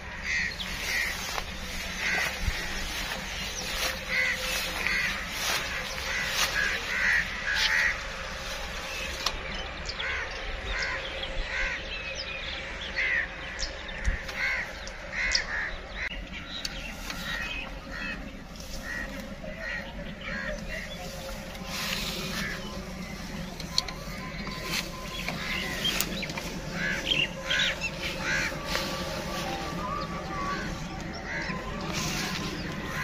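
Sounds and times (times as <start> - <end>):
crows cawing: 0.0 - 9.3, 10.0 - 11.9, 12.9 - 16.2, 16.8 - 33.0.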